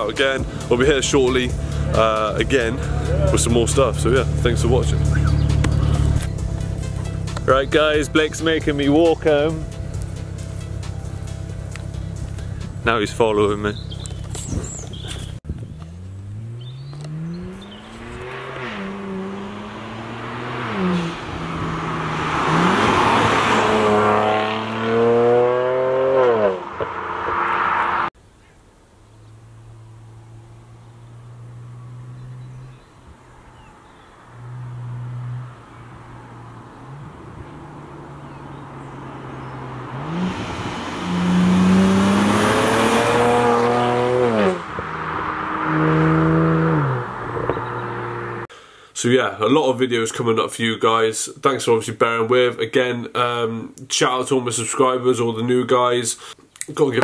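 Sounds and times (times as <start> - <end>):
car engine accelerating hard: 0.0 - 28.1, 29.2 - 32.9, 33.5 - 48.5.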